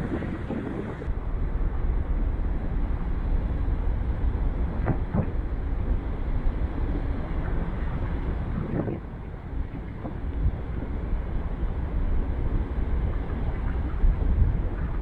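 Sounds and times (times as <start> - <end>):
ferry engine low rumble: 0.0 - 15.0.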